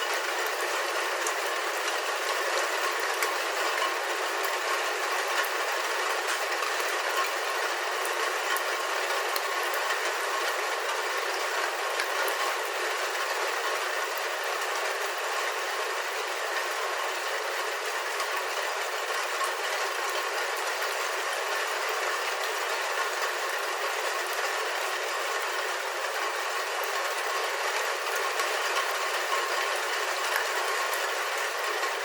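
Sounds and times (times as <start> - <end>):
rain falling on a roof: 0.0 - 32.0.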